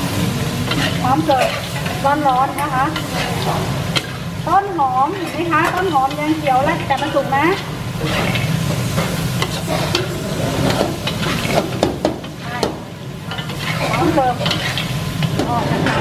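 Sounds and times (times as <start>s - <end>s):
food sizzling in hot oil: 0.0s - 16.0s
metal spatula scraping wok: 0.6s - 12.6s, 13.2s - 16.0s.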